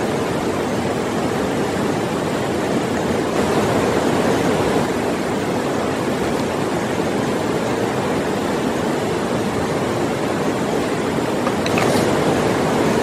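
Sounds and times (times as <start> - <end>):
river rushing over stones: 0.0 - 13.0.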